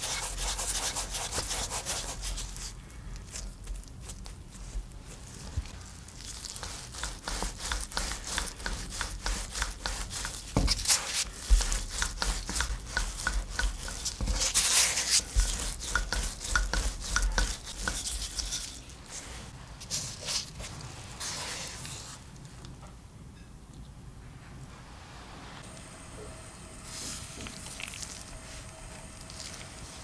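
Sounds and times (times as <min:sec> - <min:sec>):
hands kneading dough: 0:00.0 - 0:22.4, 0:26.9 - 0:30.0.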